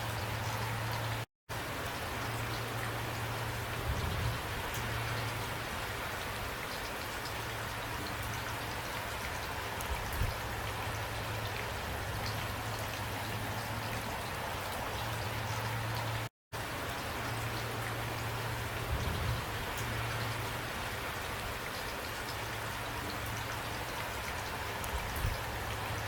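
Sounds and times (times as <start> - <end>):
raindrops ticking on surfaces: 0.0 - 26.0
steady rain hiss: 0.0 - 26.0.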